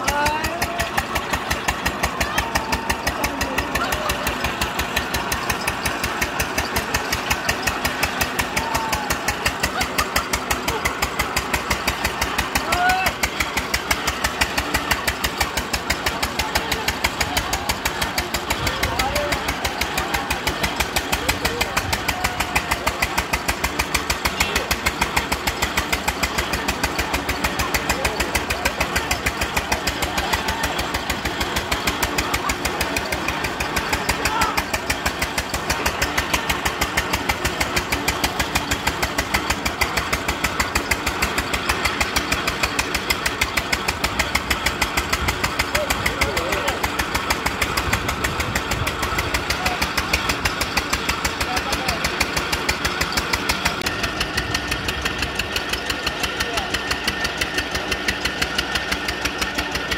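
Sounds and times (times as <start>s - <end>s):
engine rapid thumping: 0.0s - 59.9s.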